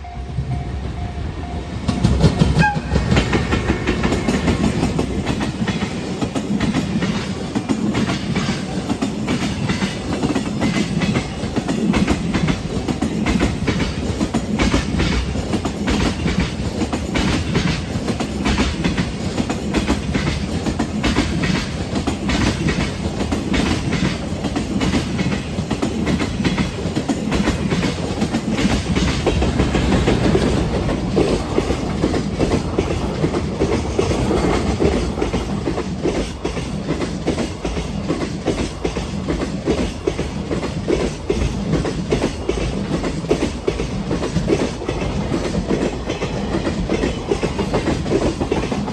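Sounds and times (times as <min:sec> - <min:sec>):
train rolling rumble: 0:00.0 - 0:48.9
train wheels clacking over rail joints: 0:01.8 - 0:48.9.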